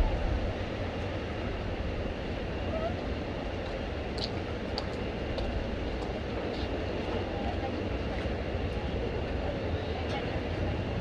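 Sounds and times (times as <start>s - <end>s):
low rumble with hiss: 0.0s - 11.0s.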